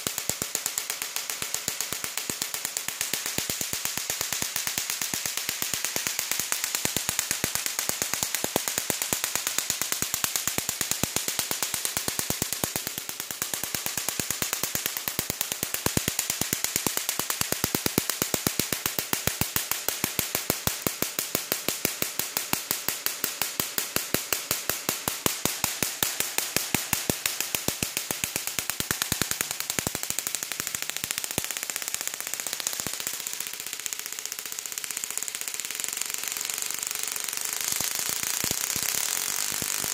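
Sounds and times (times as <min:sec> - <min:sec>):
steady high hiss: 0:00.0 - 0:39.9
tesla coil sparks snapping: 0:00.0 - 0:39.9.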